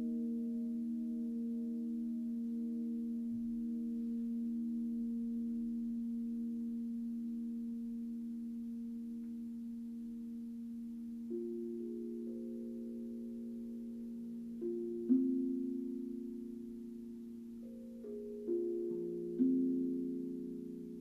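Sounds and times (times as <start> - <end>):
crystal singing bowls ringing: 0.0 - 21.0.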